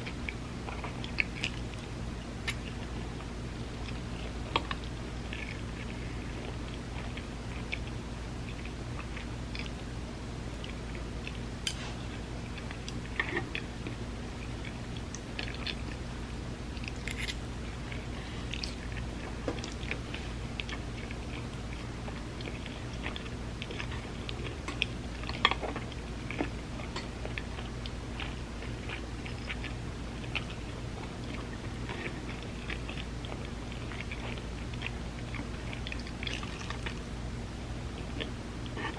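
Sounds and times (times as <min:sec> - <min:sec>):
wet chewing and mouth clicks: 0:00.0 - 0:16.0, 0:16.7 - 0:37.2.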